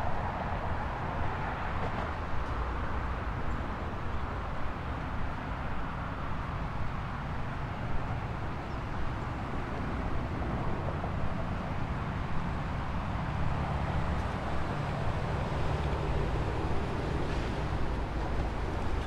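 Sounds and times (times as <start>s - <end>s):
low urban rumble: 0.0s - 19.0s.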